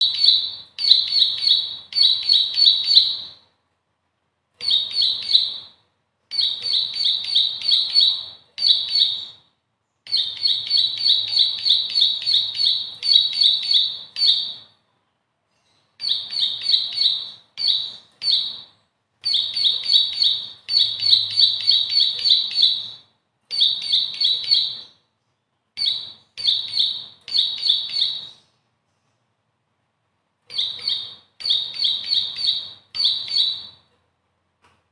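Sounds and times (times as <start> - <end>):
bird singing rapid high chirps: 0.0 - 3.5, 4.6 - 9.5, 10.1 - 14.7, 15.6 - 25.0, 25.8 - 28.5, 30.5 - 33.9.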